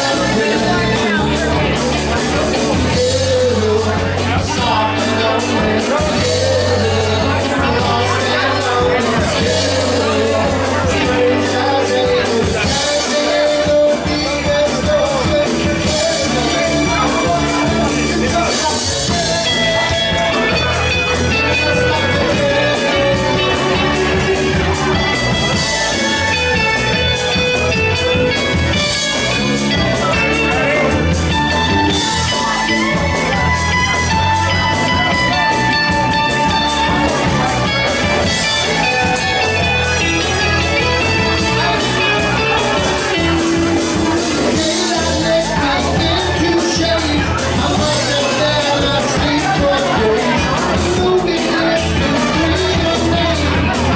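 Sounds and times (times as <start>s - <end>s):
bass guitar: 0.0s - 53.9s
drum kit beat: 0.0s - 53.9s
electric guitars: 0.0s - 53.9s.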